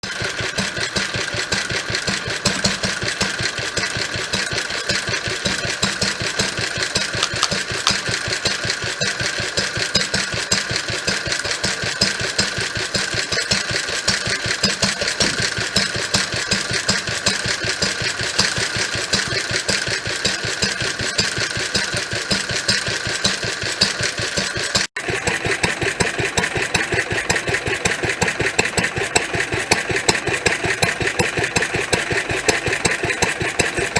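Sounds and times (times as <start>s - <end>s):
stationary engine running: 0.1s - 33.9s.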